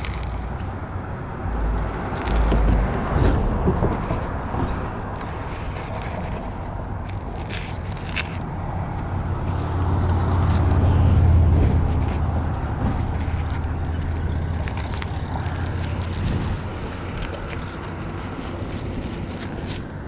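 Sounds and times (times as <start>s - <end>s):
vehicle engine passing by: 0.0s - 6.8s, 8.2s - 20.0s.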